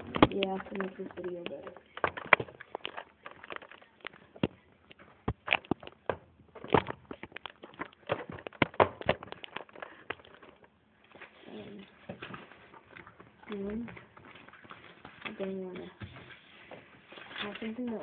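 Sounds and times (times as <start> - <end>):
paper crinkling: 0.1 - 18.0.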